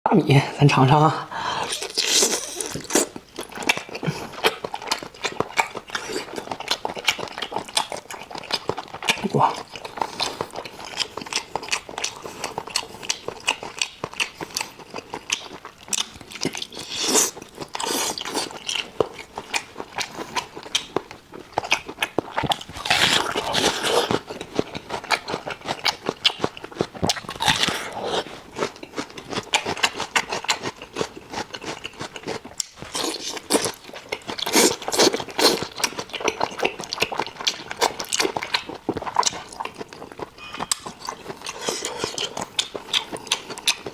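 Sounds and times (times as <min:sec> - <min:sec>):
wet chewing and biting: 0:01.6 - 0:43.9.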